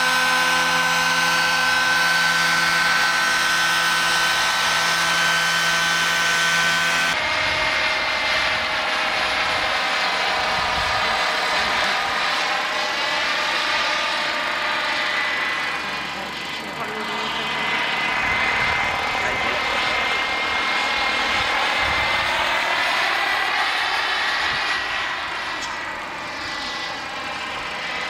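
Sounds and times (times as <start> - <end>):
model helicopter flying overhead: 0.0 - 28.0
model helicopter whine: 0.0 - 28.0.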